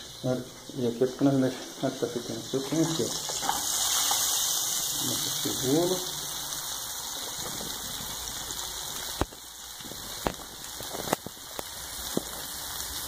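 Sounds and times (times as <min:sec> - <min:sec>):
onion sizzling in frying pan: 0:00.0 - 0:13.0.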